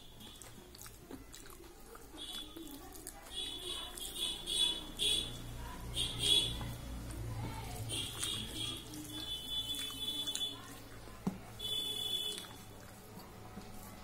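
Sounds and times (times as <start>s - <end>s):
wet squelching eating sounds: 0.0s - 14.0s.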